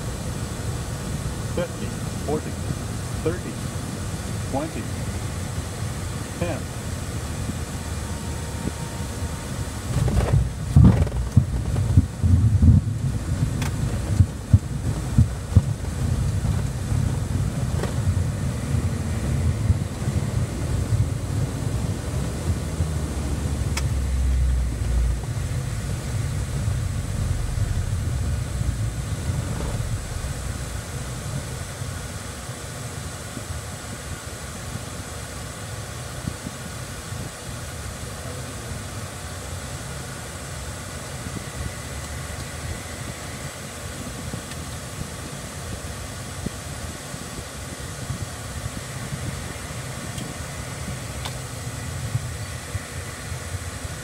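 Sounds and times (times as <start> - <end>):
jet engine high whine: 0.0 - 54.0
jet wheels rumbling on runway: 0.0 - 54.0.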